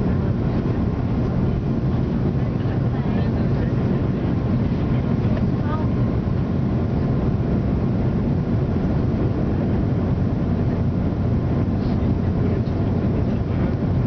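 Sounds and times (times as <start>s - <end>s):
jet engine rumble inside cabin: 0.0s - 14.0s.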